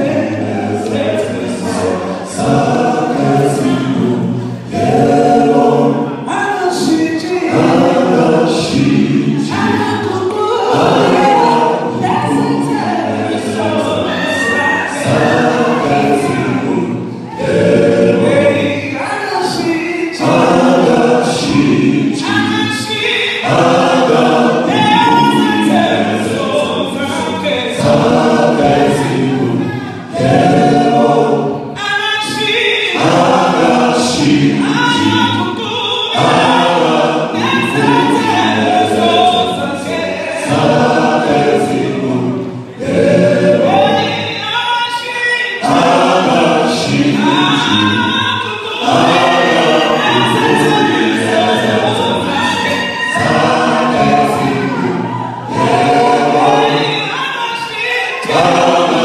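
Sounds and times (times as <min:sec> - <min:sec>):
male vocal group singing: 0:00.0 - 0:59.0.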